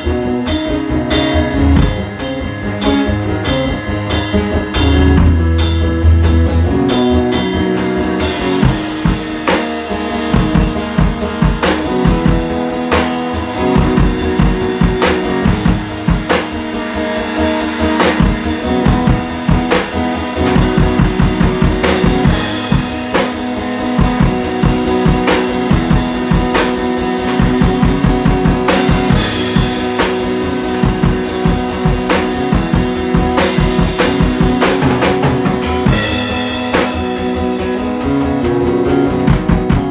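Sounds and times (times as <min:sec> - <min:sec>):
driving drum beat: 0:00.0 - 0:39.9
electric guitar playing: 0:00.0 - 0:39.9.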